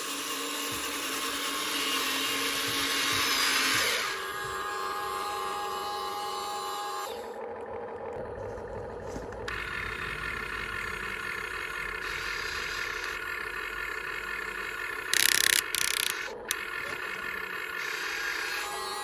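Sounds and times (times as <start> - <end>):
toy electric motors whining: 0.0 - 8.2, 9.3 - 19.0.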